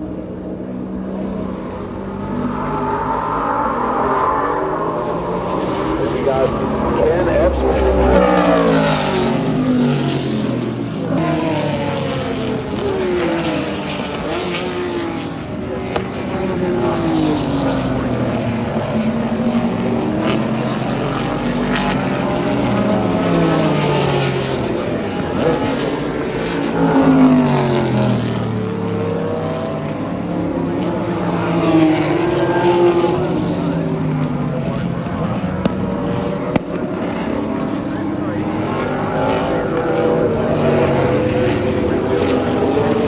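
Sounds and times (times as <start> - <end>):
race cars passing at speed: 0.0 - 43.0.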